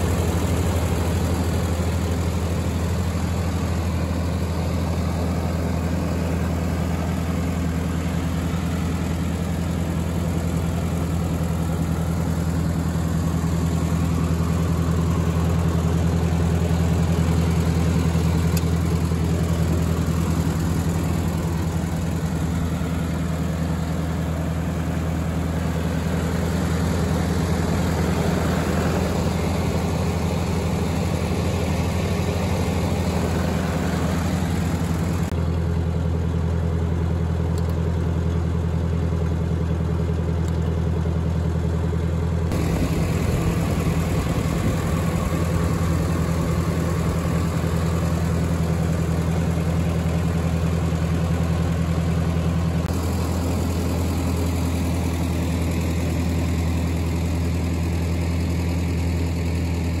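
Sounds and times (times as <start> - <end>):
tractor engine idling: 0.0 - 60.0.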